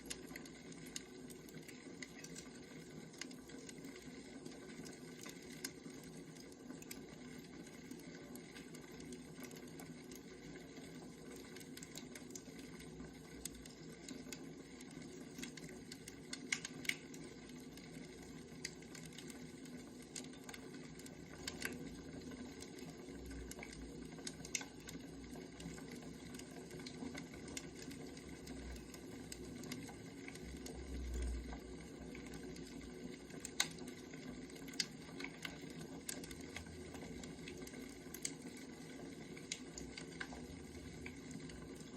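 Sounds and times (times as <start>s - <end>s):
firewood crackling and popping: 0.0s - 41.9s.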